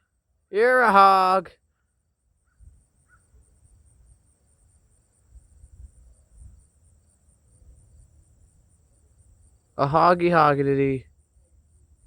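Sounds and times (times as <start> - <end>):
crickets chirping: 1.6 - 12.0.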